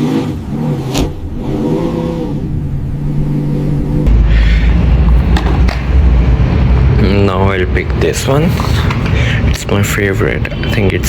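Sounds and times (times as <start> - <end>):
car engine running: 0.0 - 9.2.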